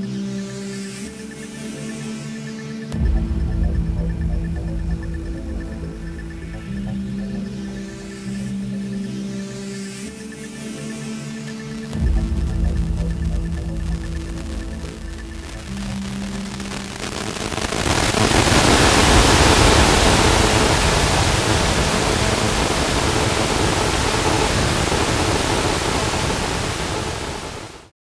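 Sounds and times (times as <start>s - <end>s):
loud static hiss: 0.0s - 27.9s.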